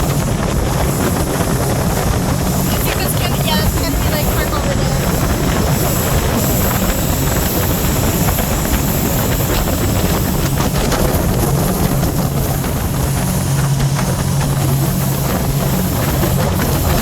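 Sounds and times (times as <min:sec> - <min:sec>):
boat engine humming: 0:00.0 - 0:17.0
water rushing: 0:00.0 - 0:17.0
wind buffeting microphone: 0:00.0 - 0:17.0.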